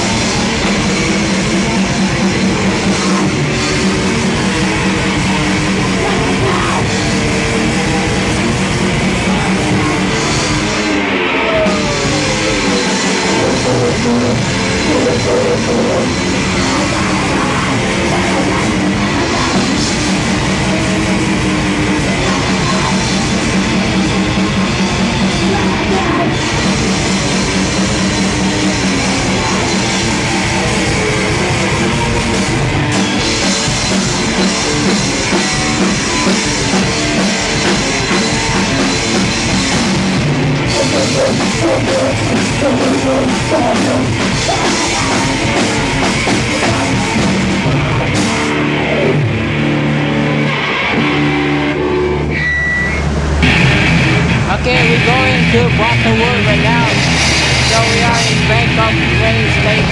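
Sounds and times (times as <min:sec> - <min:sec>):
fast drumming: 0:00.0 - 0:48.6, 0:53.4 - 0:59.9
distorted guitar: 0:00.0 - 0:59.9.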